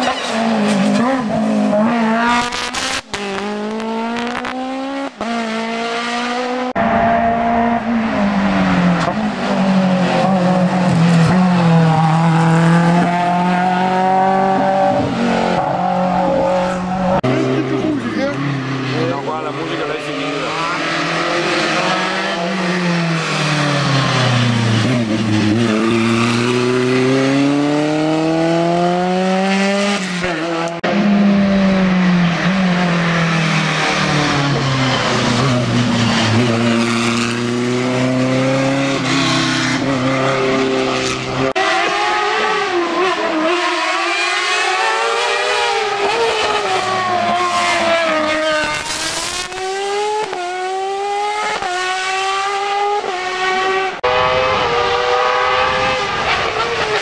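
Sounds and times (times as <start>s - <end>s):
race car engines at high revs: 0.0s - 57.0s.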